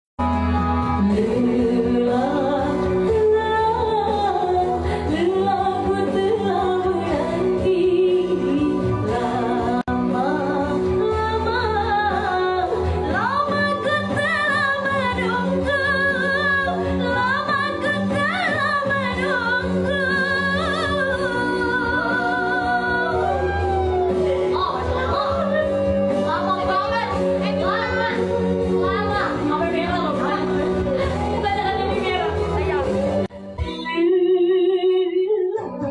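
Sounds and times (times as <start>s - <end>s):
music accompaniment: 0.2s - 35.9s
women singing with vibrato: 0.8s - 35.9s.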